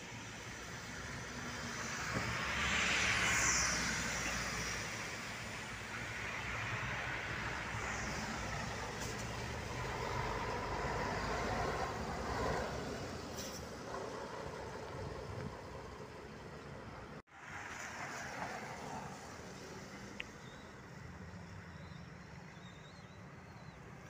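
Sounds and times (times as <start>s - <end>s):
bus diesel engine driving past: 0.0s - 24.0s
tyres on slushy road: 0.0s - 24.0s.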